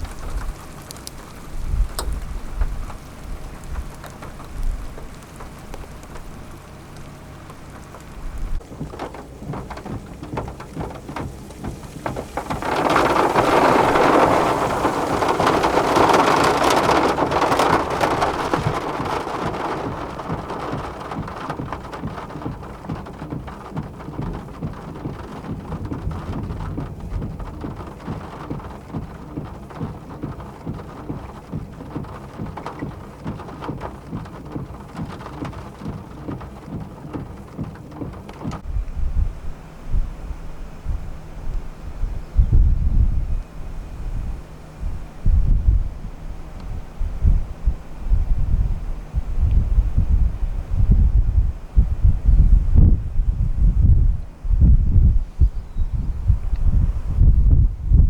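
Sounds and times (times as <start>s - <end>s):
low rumbles: 0.0s - 58.0s
rain pattering: 0.0s - 58.0s.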